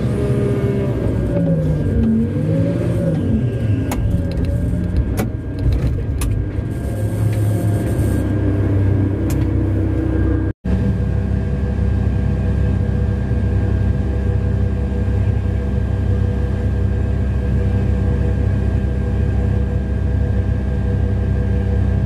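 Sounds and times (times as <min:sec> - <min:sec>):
diesel engine running loudly: 0:00.0 - 0:22.0.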